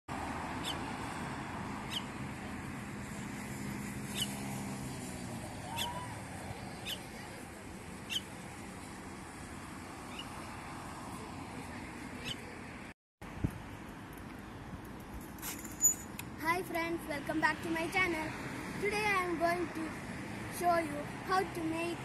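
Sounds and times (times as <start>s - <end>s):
outdoor background noise: 0.1s - 22.0s.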